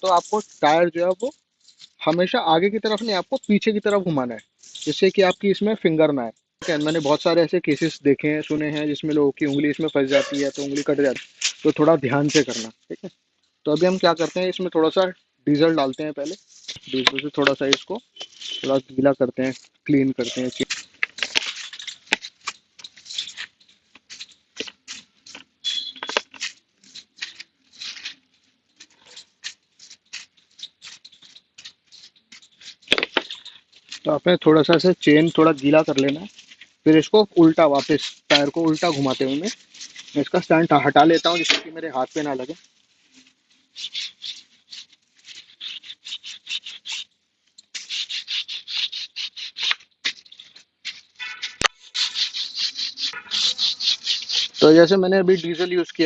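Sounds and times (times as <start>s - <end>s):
brush scrubbing a chain: 0.0s - 5.6s, 6.6s - 56.0s.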